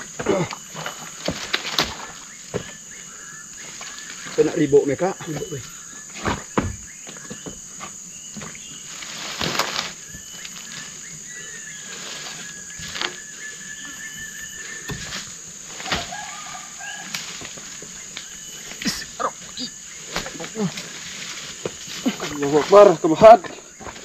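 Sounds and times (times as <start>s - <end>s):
insects droning: 0.0s - 24.0s
thuds and rustles: 0.0s - 24.0s.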